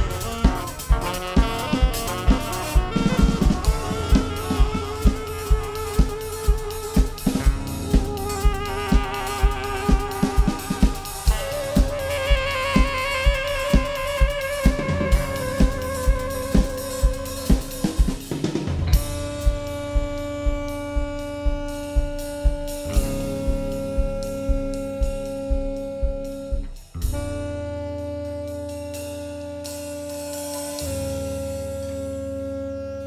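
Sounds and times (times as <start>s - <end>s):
drum kit beat: 0.0s - 32.5s
jazz fusion band music: 0.0s - 33.0s.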